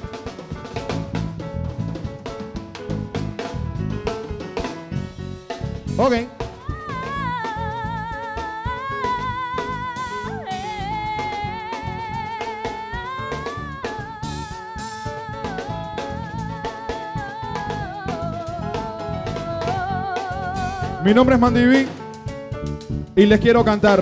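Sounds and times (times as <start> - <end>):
drum kit: 0.0 - 24.0
guitar: 0.0 - 24.0.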